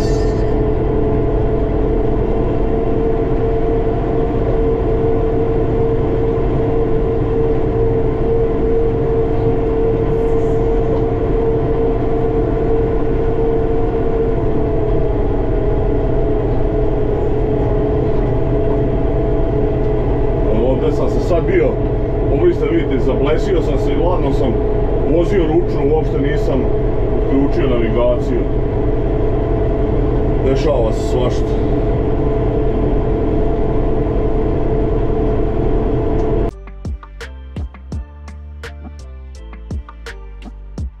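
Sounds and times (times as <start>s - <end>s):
constant high whine: 0.0s - 40.9s
tractor diesel engine running: 0.0s - 41.0s.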